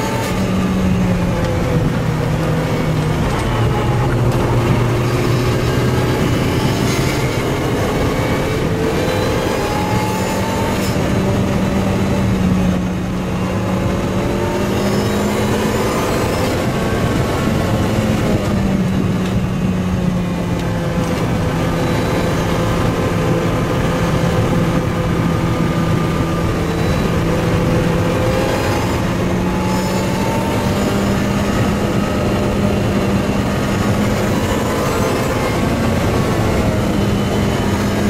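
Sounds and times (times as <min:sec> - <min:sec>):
car engine pulling hard: 0:00.0 - 0:38.0
tyre and wind noise: 0:00.0 - 0:38.0.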